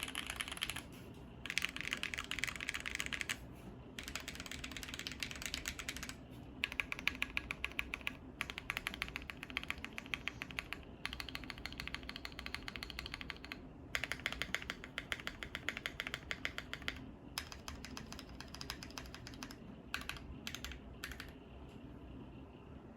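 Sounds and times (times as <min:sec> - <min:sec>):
mechanical keyboard typing: 0:00.0 - 0:03.4, 0:04.0 - 0:21.4.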